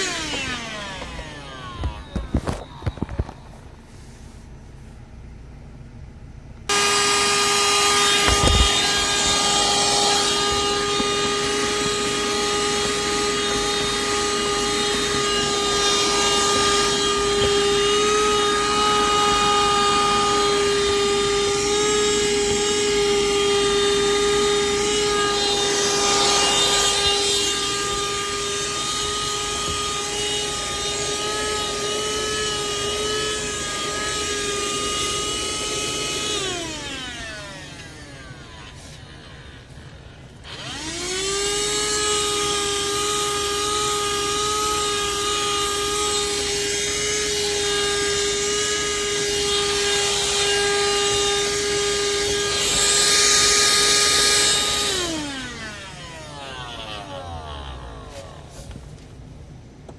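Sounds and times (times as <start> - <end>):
handheld vacuum cleaner whine: 0.0 - 3.9, 6.7 - 59.9.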